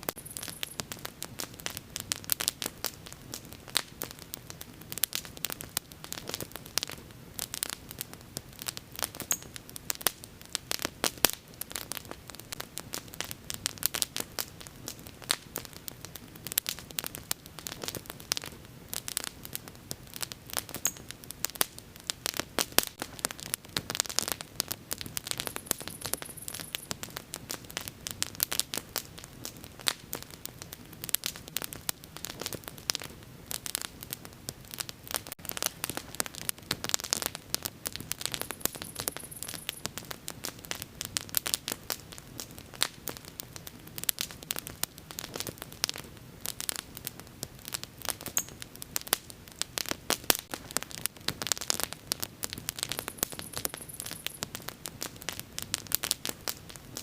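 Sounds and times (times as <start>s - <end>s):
fire crackling and popping: 0.0s - 57.0s
low rumble of flame: 0.0s - 57.0s.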